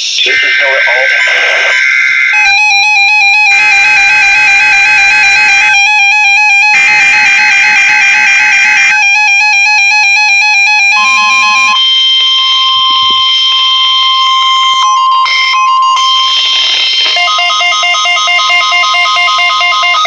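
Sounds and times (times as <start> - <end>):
rapidly alternating beeps: 0.0 - 20.0
steady loud warning tone: 0.0 - 20.0.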